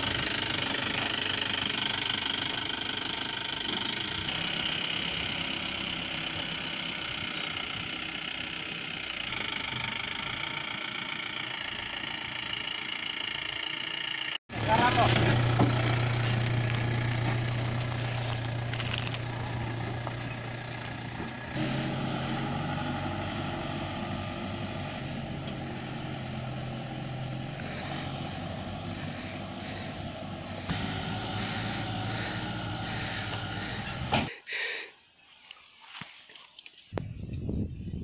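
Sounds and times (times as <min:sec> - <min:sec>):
vehicle engine running: 0:00.0 - 0:34.8.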